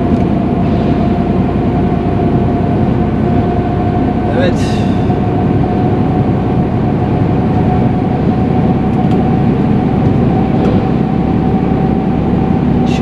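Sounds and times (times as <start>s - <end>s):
thin constant whine: 0.0s - 13.0s
truck engine and road noise: 0.0s - 13.0s.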